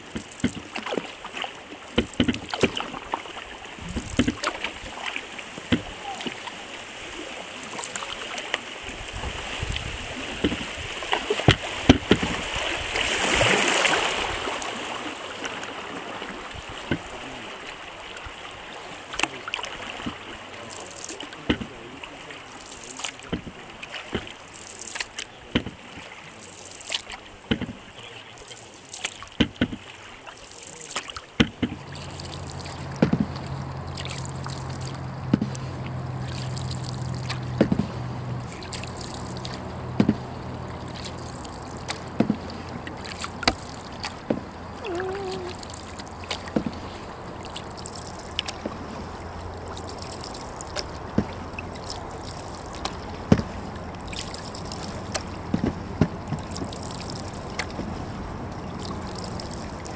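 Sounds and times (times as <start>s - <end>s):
paddle knocking against hull: 0.0s - 6.6s, 7.8s - 14.8s, 15.4s - 17.3s, 19.1s - 28.1s, 28.7s - 59.9s
paddle splashing: 0.0s - 59.9s
river water rushing: 0.0s - 59.9s
low steady hum: 11.4s - 59.9s.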